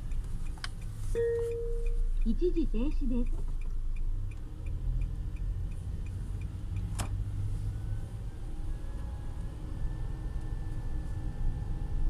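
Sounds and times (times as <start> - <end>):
turn signal ticking: 0.0 - 12.0.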